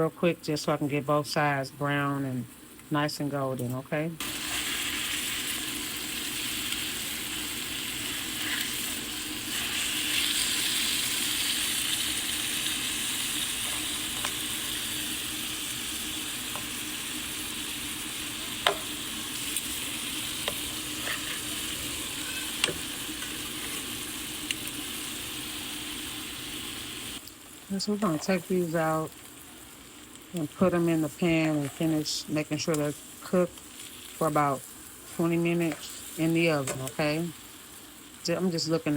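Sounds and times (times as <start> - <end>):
chicken sizzling in a frying pan: 3.9 - 38.9.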